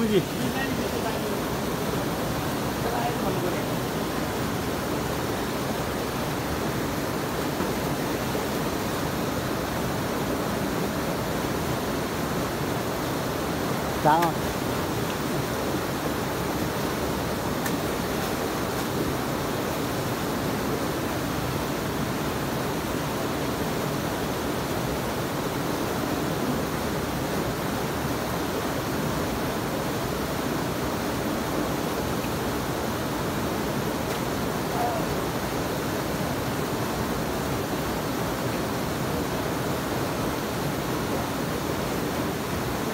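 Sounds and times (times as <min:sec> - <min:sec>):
waterfall rushing into pool: 0:00.0 - 0:42.9.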